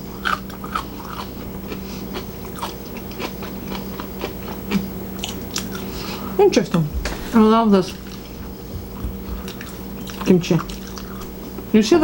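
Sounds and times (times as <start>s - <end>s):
chewing and crunching food: 0.0s - 11.7s
low steady hum: 0.0s - 12.0s.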